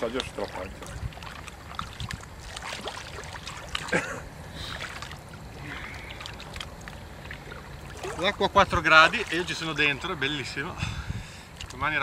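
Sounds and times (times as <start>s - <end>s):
water sloshing against boat: 0.0s - 12.0s.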